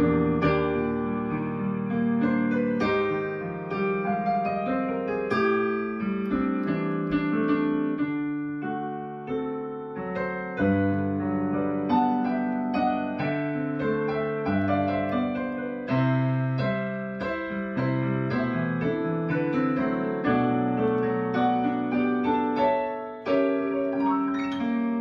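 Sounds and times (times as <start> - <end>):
digital piano chords: 0.0 - 25.0.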